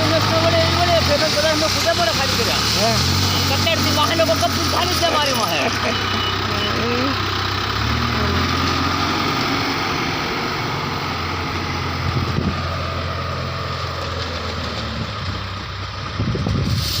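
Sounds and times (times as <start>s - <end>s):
engine knocks: 0.0s - 16.8s
diesel engine running: 0.0s - 17.0s.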